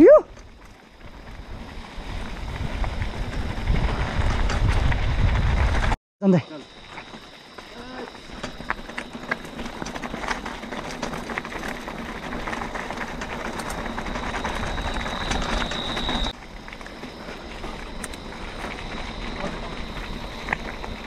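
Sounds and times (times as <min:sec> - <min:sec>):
bicycle tyres on dirt trail: 0:00.0 - 0:21.0
bike clicks and rattles: 0:00.3 - 0:06.0, 0:06.7 - 0:21.0.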